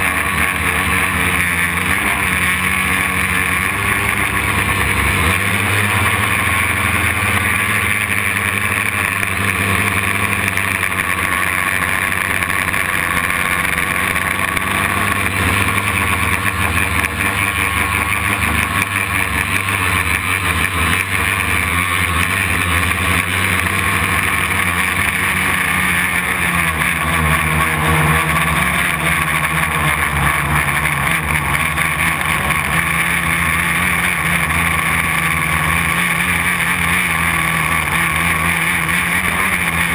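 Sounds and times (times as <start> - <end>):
quadcopter motors buzzing whine: 0.0 - 39.9.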